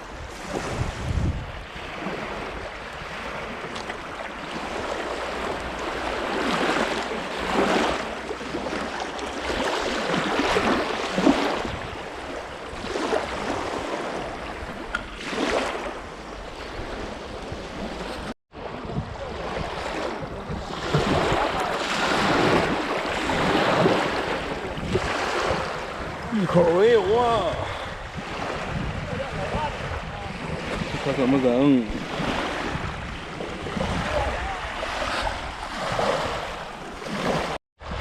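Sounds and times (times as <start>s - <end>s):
gusty wind buffeting microphone: 0.0s - 3.7s, 9.4s - 38.0s
waves washing against shore: 0.0s - 38.0s.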